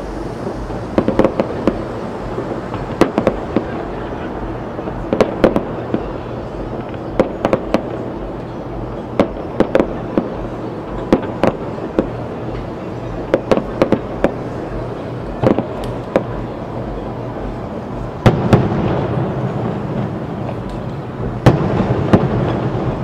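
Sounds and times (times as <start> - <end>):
steady low rumble: 0.0 - 23.0
distant firework bangs: 0.5 - 17.6, 18.2 - 23.0.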